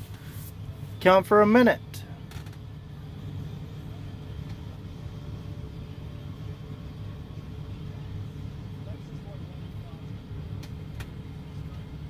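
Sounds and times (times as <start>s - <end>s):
idling engine rumble: 0.0s - 12.0s.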